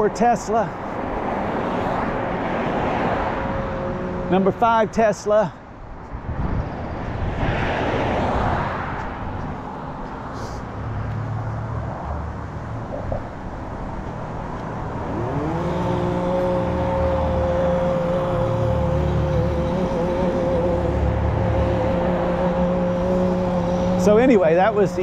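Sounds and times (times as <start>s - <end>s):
car passing: 0.0s - 25.0s
vehicle engine whine: 0.0s - 25.0s.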